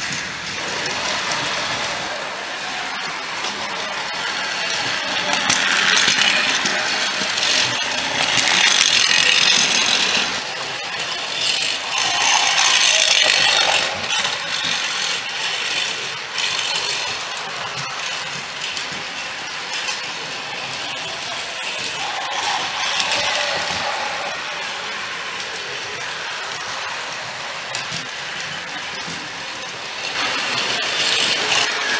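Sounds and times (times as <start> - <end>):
toy trains running on plastic track: 0.0 - 31.9.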